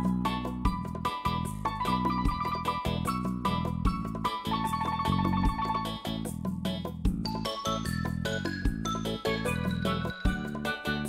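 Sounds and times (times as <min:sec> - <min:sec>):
electronic background music: 0:00.0 - 0:11.0.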